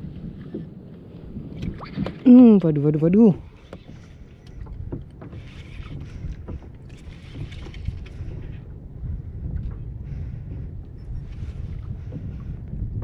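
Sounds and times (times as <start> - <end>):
low wind rumble: 0.0 - 13.0
water lapping against kayak hull: 0.0 - 13.0.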